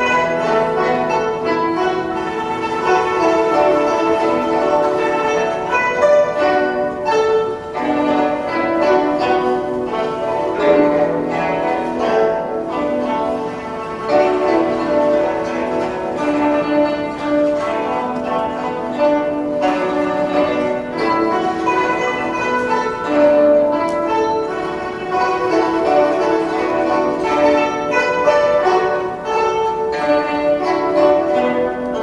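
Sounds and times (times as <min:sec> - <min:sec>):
plucked zither ensemble: 0:00.0 - 0:32.0.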